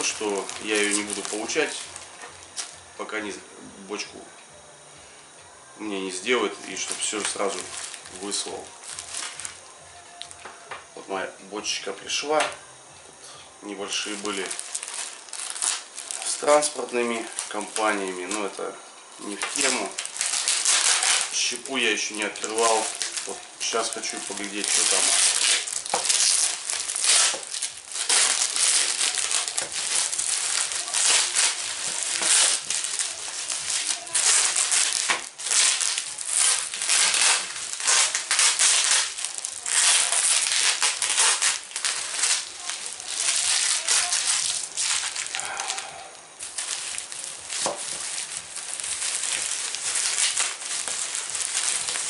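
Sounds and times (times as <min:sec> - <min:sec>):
plastic bag crinkling: 0:00.0 - 0:03.3, 0:05.9 - 0:10.4, 0:13.6 - 0:52.0.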